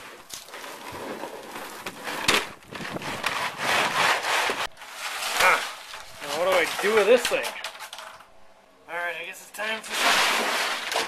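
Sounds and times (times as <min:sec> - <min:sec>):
fiberglass sheet scraping floor: 0:00.0 - 0:08.1, 0:09.6 - 0:11.0.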